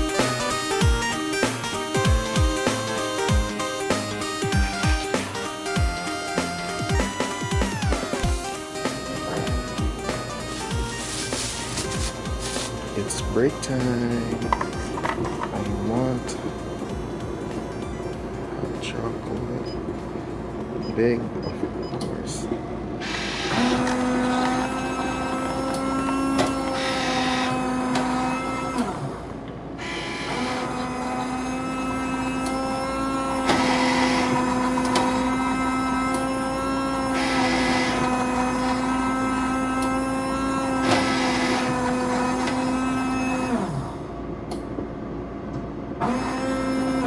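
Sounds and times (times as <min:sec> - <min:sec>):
drinks machine motor humming: 0:00.0 - 0:47.0.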